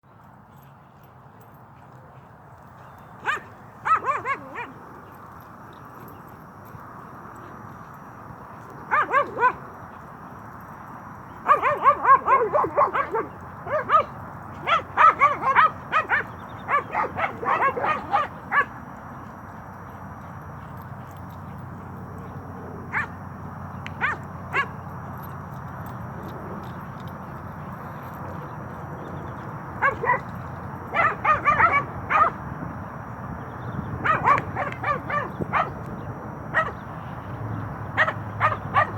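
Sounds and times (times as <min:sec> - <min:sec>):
dogs play-barking and yipping: 0:00.6 - 0:38.9.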